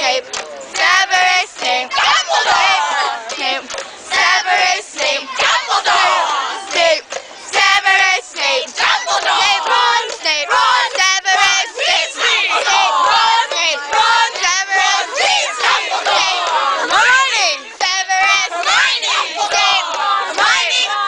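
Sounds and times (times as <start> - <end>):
young voices singing and shouting: 0.0 - 21.0.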